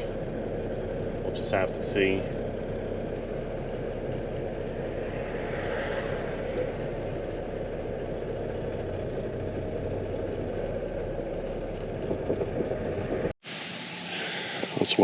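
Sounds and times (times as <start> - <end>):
truck engine running: 0.0 - 13.4.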